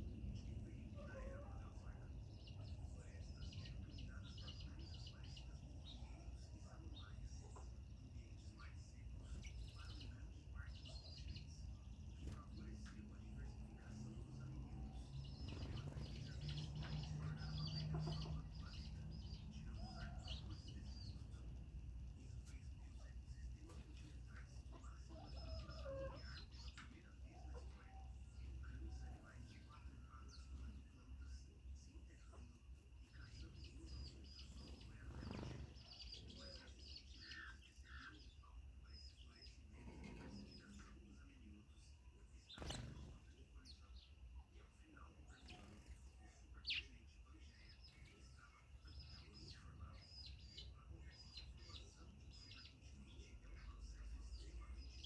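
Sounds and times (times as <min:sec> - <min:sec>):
chickens chirping: 0:00.0 - 0:55.0.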